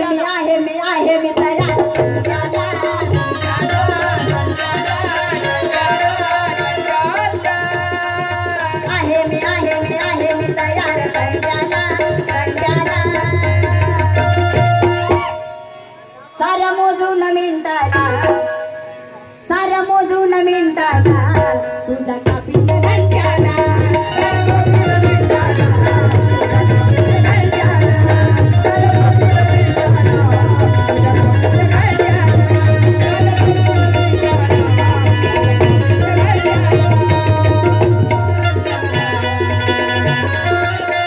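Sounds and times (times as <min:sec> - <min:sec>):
harmonium: 0:00.0 - 0:41.0.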